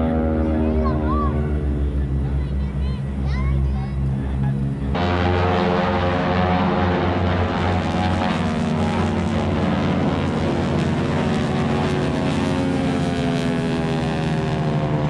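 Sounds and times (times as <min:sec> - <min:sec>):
propeller aircraft droning overhead: 0:00.0 - 0:15.0.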